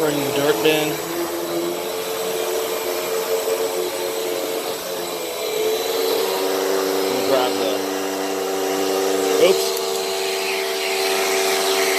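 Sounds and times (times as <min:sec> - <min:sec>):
vacuum cleaner running on rug: 0:00.0 - 0:11.9.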